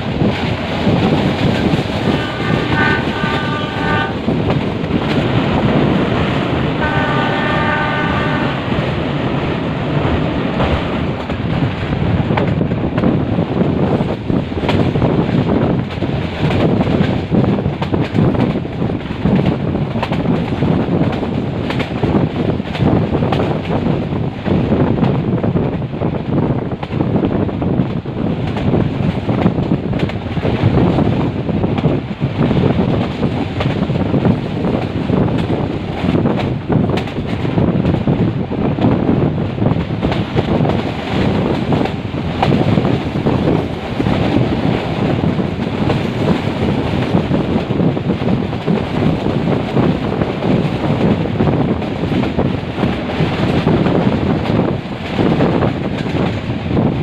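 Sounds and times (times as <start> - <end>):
train rumbling: 0.0 - 57.0
wind buffeting microphone: 0.0 - 57.0.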